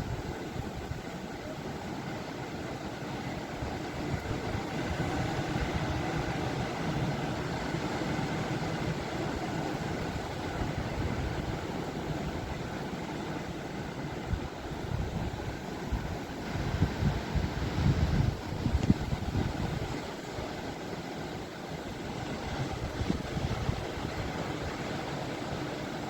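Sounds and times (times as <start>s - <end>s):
waves washing in: 0.0s - 26.0s
wind buffeting microphone: 3.5s - 20.9s, 21.8s - 25.8s.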